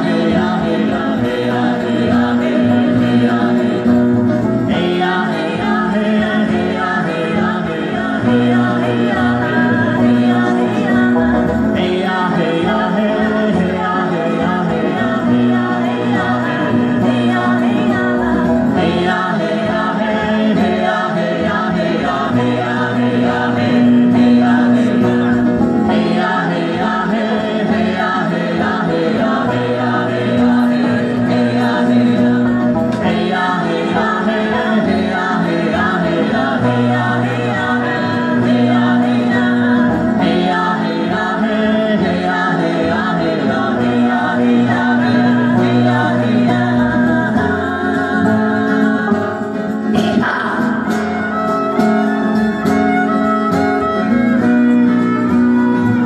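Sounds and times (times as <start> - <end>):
acoustic country band playing: 0.0 - 56.0
acoustic guitars: 0.0 - 56.0
banjo: 0.0 - 56.0
double bass: 0.0 - 56.0
voices singing together: 0.0 - 56.0.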